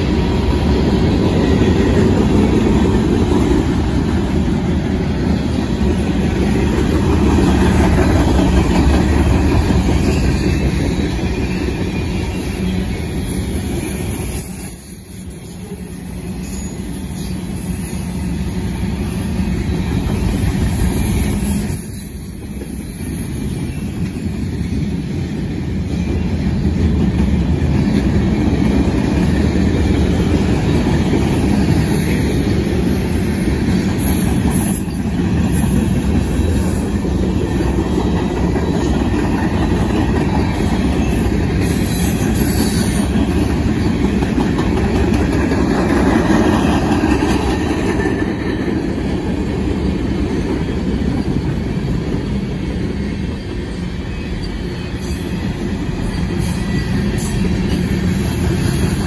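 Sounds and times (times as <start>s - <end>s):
steel wheels running over rails: 0.0s - 59.0s.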